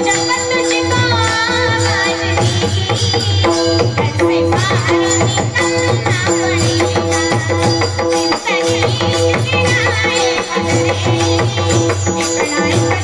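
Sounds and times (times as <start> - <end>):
tabla drumming: 0.0 - 13.0.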